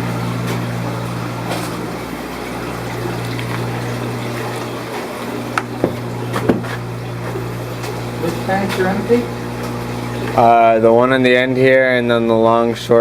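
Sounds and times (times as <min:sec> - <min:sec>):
aquarium pumps humming: 0:00.0 - 0:13.0
running water: 0:00.0 - 0:13.0.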